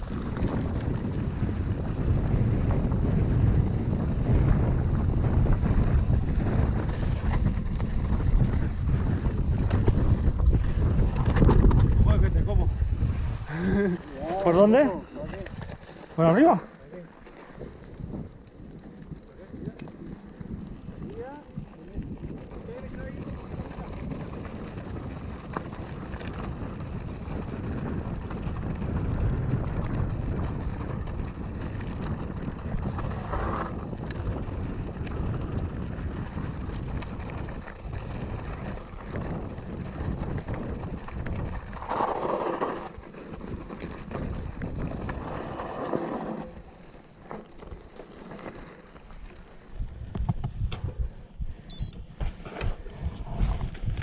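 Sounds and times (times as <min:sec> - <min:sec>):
bike rumbling over ground: 0:00.0 - 0:51.4
wind on camera microphone: 0:00.0 - 0:54.0.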